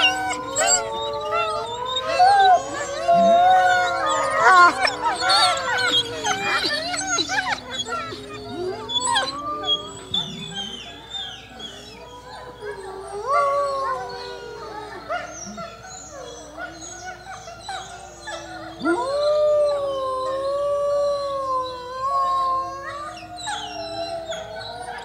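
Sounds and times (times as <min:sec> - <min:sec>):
distant wolves howling: 0:00.0 - 0:25.0
wolves howling: 0:00.0 - 0:25.0
wolves whining and yipping: 0:00.0 - 0:25.0.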